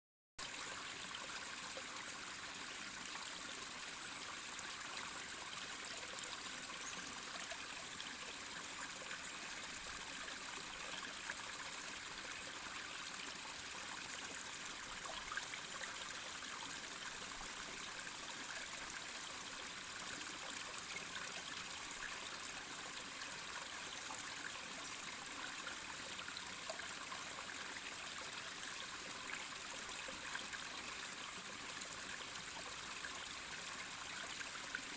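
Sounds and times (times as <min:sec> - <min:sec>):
stream flowing over rocks: 0:00.4 - 0:34.9.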